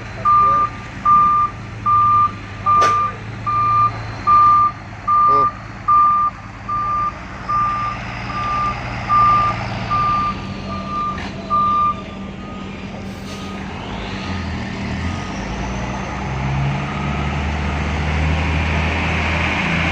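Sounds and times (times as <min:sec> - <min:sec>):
truck reversing alarm beeping: 0:00.0 - 0:18.0
truck engine running: 0:00.0 - 0:19.9.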